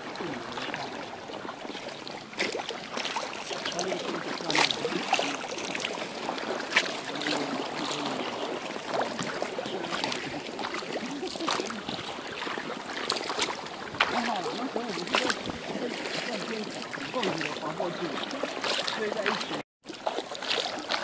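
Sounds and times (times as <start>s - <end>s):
kayak paddle splashes: 0.0s - 21.0s
moving water: 0.0s - 21.0s.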